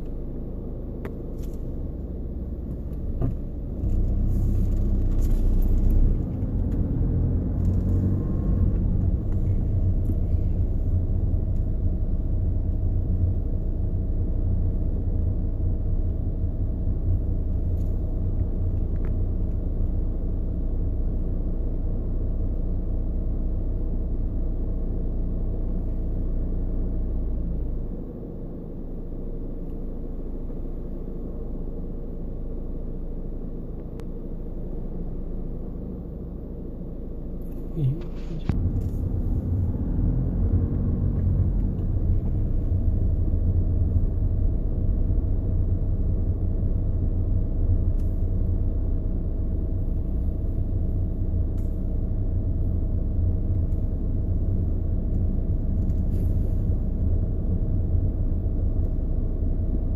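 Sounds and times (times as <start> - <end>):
low rumbling vibrating rattle: 0.7 - 28.0, 29.3 - 59.9.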